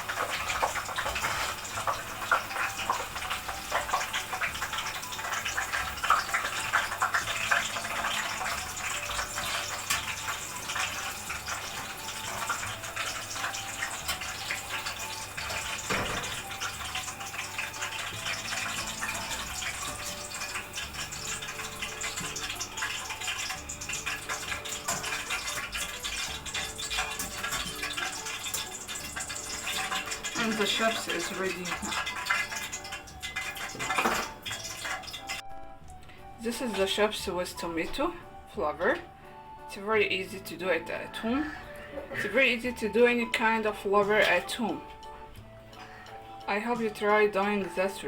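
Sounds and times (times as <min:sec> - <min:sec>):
chips sizzling in hot oil: 0:00.0 - 0:35.4, 0:40.0 - 0:48.0.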